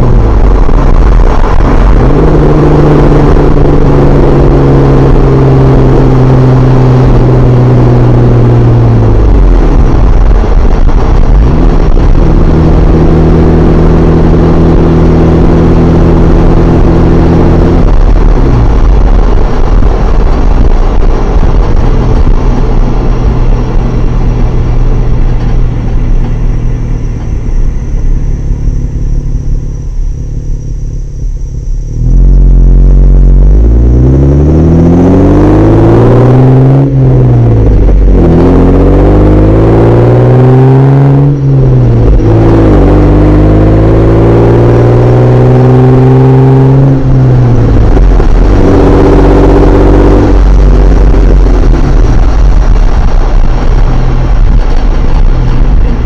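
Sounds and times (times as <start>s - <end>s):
car exhaust drone: 0.0s - 56.0s.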